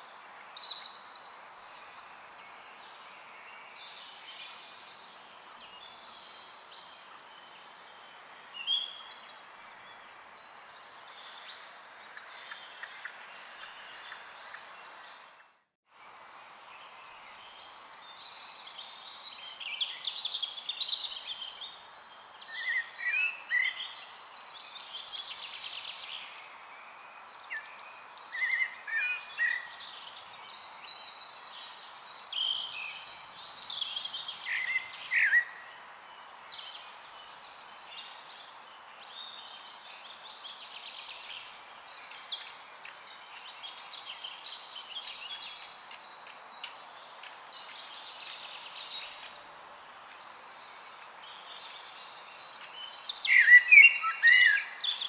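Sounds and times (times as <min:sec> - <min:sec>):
songbirds chirping and warbling: 0:00.0 - 0:55.0
steady background hiss: 0:00.0 - 0:55.0.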